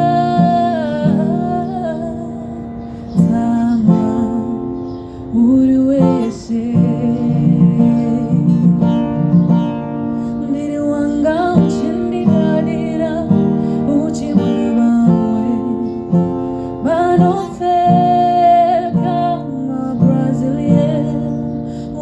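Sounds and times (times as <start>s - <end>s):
person singing: 0.0s - 22.0s
strummed guitar: 0.0s - 22.0s.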